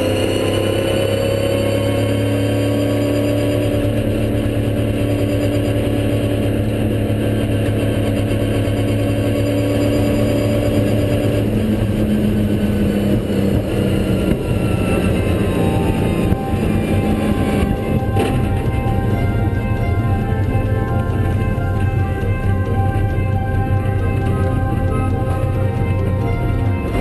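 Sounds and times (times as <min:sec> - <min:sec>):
race car engine from cockpit: 0:00.0 - 0:27.0.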